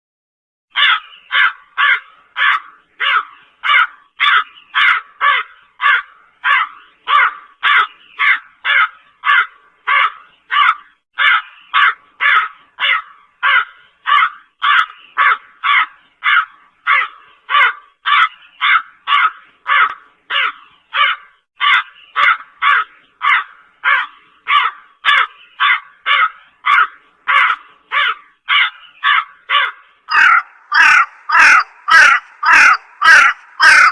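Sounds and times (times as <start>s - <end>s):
crow cawing: 0.7s - 33.9s.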